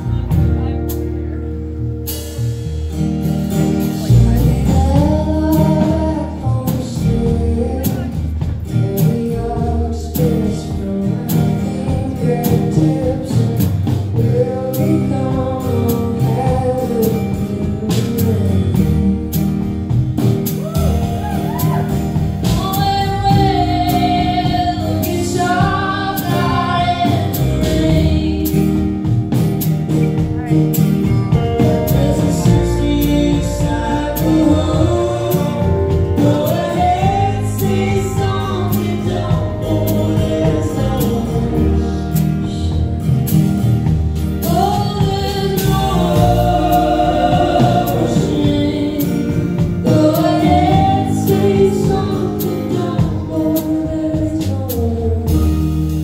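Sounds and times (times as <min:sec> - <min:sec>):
acoustic guitar: 0:00.0 - 0:56.0
person singing: 0:03.8 - 0:29.3, 0:30.2 - 0:43.2, 0:44.2 - 0:56.0.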